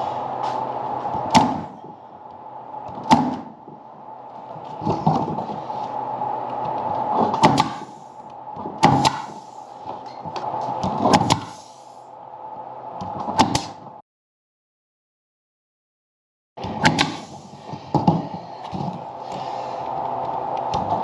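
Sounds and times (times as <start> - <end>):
steady background hum: 0.0 - 14.0, 16.6 - 21.0.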